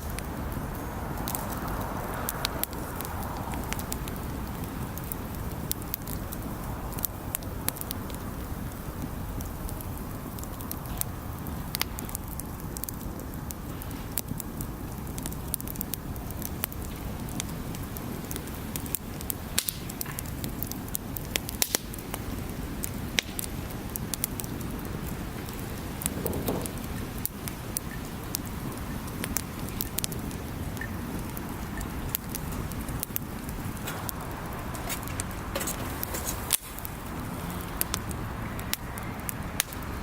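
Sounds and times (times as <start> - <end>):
bonfire crackling: 0.0 - 40.0
sharp pops and snaps: 0.0 - 40.0.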